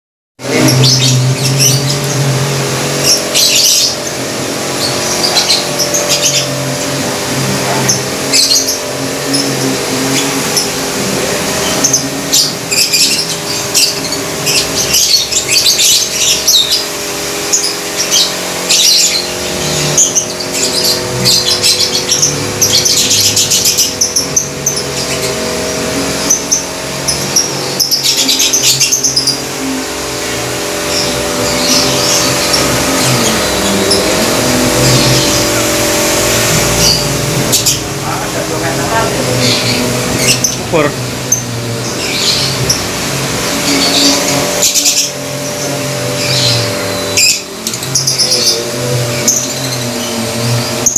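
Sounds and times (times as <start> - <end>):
lovebirds chattering and chirping: 0.4 - 50.9
steady low hum: 0.4 - 50.9.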